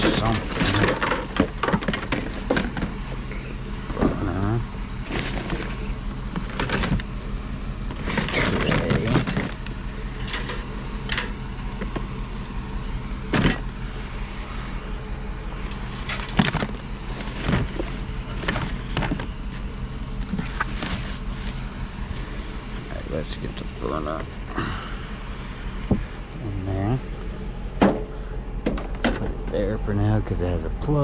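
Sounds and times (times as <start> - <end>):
knocks clanks and rattles of junk: 0.0 - 12.2, 13.2 - 13.8, 15.6 - 24.9, 25.8 - 29.9
idling engine hum: 0.0 - 31.0.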